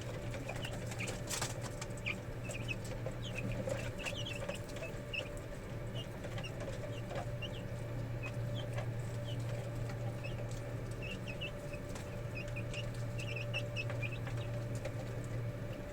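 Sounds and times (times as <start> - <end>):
chickens chirping: 0.0 - 15.9
low hum: 0.0 - 15.9.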